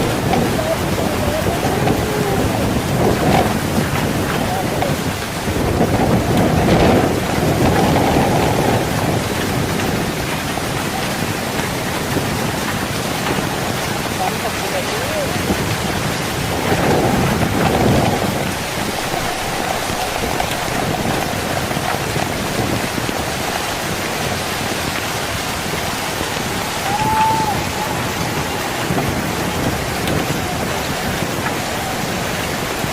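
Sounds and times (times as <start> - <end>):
heavy rain pouring: 0.0 - 32.9.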